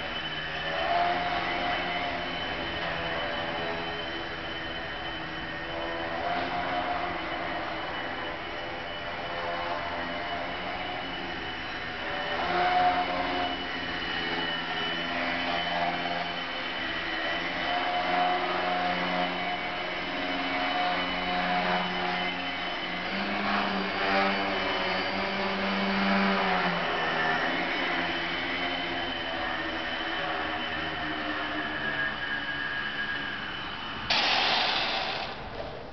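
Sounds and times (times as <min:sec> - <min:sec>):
model plane motor buzzing: 0:00.0 - 0:35.4
steady high whine: 0:00.0 - 0:35.9.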